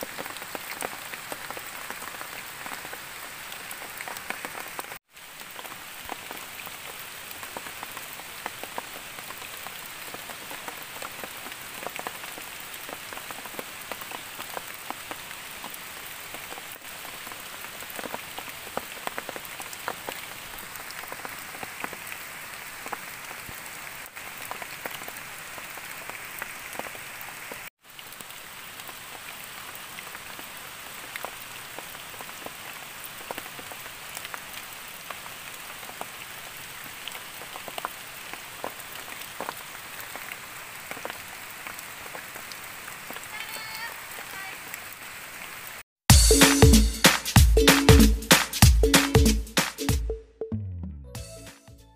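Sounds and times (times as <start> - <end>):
rain on leaves: 0.0 - 49.8.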